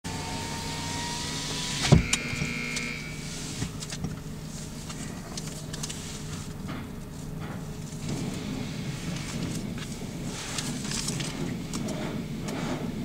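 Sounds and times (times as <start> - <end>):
car wash machinery running: 0.0 - 13.0.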